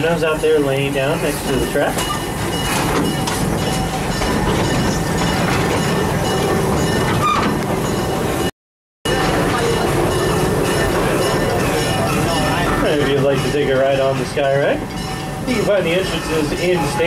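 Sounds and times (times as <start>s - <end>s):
train rolling along track: 0.0s - 8.5s, 9.1s - 17.0s.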